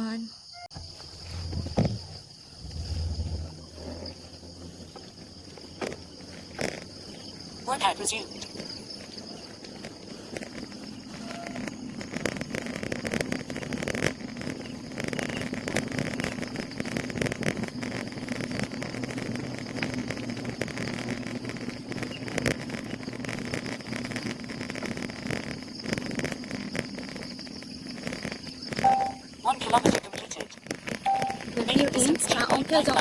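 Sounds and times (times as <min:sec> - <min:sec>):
high insect drone: 0:00.0 - 0:33.0
bicycle riding noise: 0:00.7 - 0:29.8, 0:30.5 - 0:33.0.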